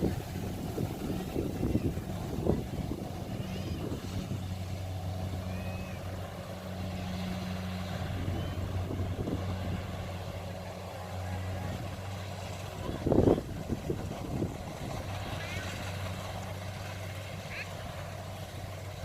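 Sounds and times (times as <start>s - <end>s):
combine harvester diesel engine: 0.0s - 19.0s.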